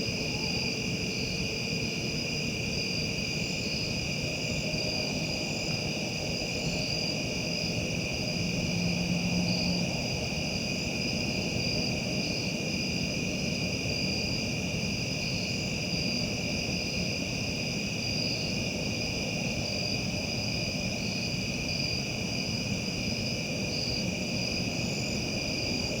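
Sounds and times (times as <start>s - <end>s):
crickets and insects chirring: 0.0s - 26.0s.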